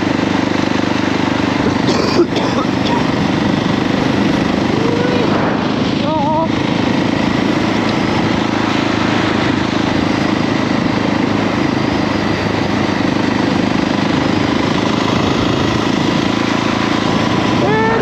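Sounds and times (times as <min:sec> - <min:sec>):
motorcycle engine running: 0:00.0 - 0:18.0
dense rushing noise: 0:02.8 - 0:18.0.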